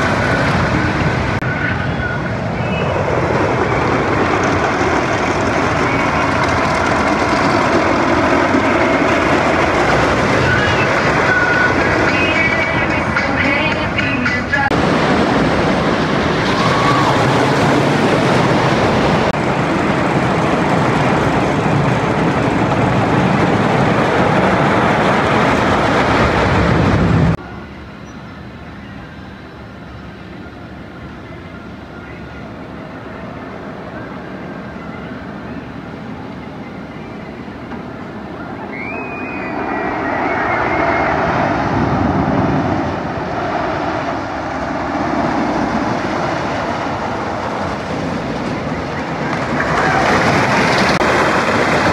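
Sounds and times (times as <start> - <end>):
roller coaster rumbling on track: 0.0 - 51.9.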